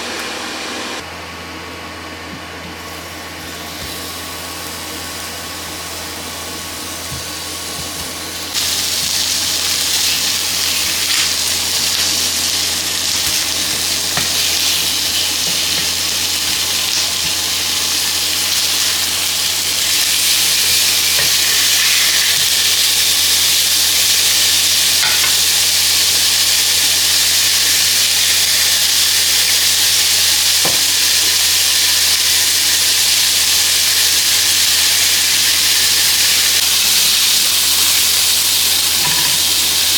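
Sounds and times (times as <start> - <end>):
food sizzling in a frying pan: 2.9 - 39.9.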